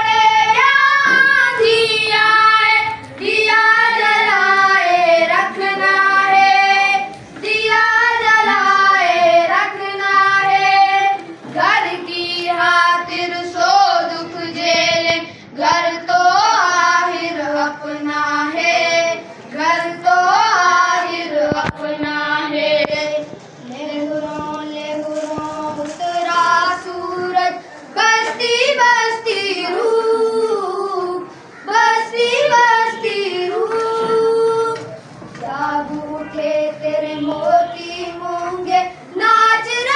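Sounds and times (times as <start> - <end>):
boys singing together: 0.0 - 39.9.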